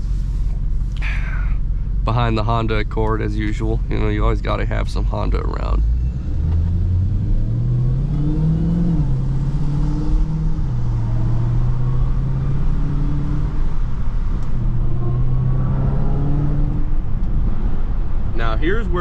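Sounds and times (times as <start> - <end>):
car engine from inside: 0.0 - 19.0.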